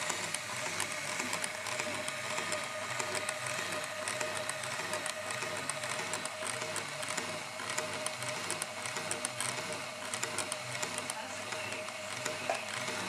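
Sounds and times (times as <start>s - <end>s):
sewing machine running: 0.0s - 13.0s.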